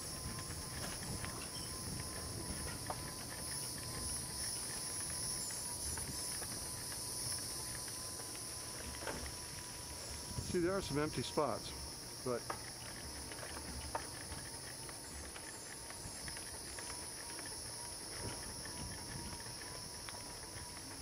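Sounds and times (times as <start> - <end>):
insects trilling: 0.0 - 21.0
wind and road noise: 0.0 - 21.0.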